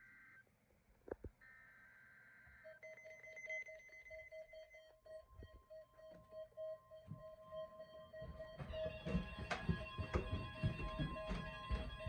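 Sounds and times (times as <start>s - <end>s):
rapidly pulsing alarm beep: 1.9s - 12.0s.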